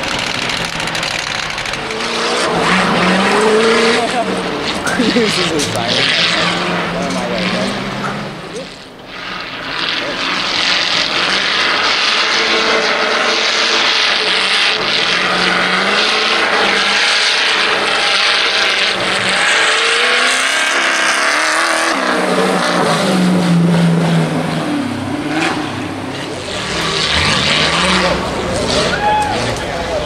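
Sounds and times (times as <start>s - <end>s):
buggy engine at high revs: 0.0s - 30.0s.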